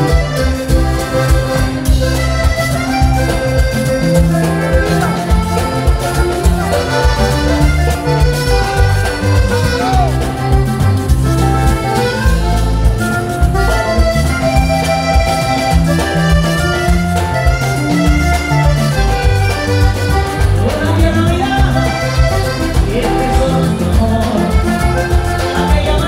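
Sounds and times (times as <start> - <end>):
button accordion melody: 0.0 - 26.0
congas: 0.0 - 26.0
electric bass: 0.0 - 26.0.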